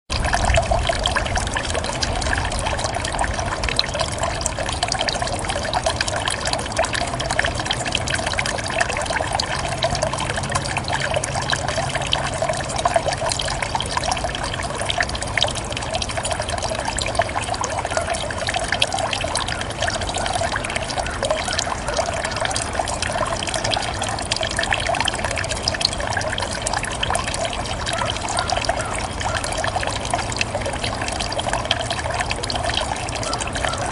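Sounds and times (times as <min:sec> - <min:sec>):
fountain water trickling: 0:00.1 - 0:33.9.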